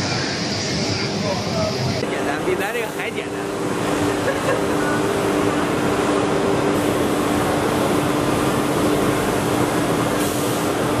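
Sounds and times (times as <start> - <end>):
constant low hum: 0.0 - 11.0
machinery rushing noise: 0.0 - 11.0.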